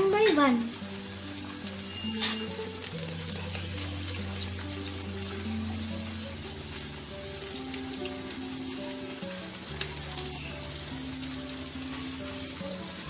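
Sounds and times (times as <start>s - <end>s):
background music with low notes: 0.0s - 13.0s
sauce sizzling in a frying pan: 0.0s - 13.0s.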